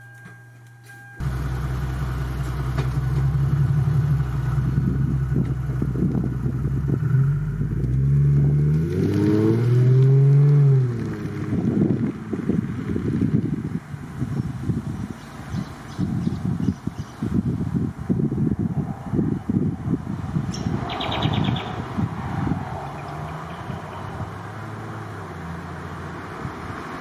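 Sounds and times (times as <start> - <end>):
car exhaust accelerating: 1.2 - 27.0
wind noise on microphone: 4.2 - 27.0.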